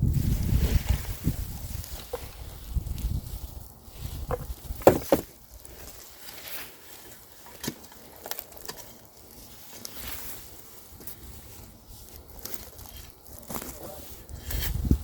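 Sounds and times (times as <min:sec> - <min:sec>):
soil rustles and knocks: 0:00.0 - 0:15.0.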